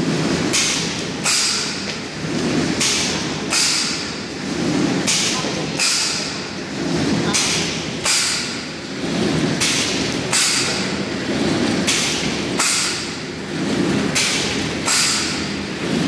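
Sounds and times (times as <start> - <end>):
machine hissing clacks: 0.0 - 16.0
mechanical churn: 0.0 - 16.0.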